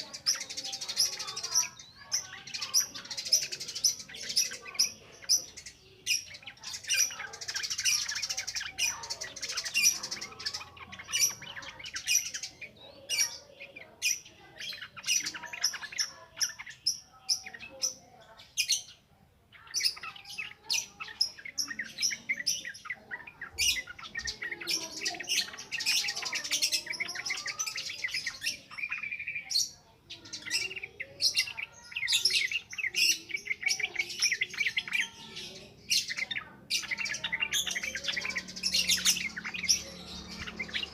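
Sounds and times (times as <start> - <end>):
bird singing high chattering notes: 0.0 - 40.9.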